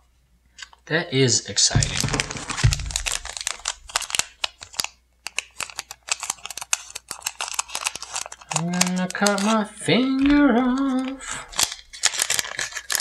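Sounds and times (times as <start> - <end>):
foil wrapper crinkling: 1.7 - 13.0.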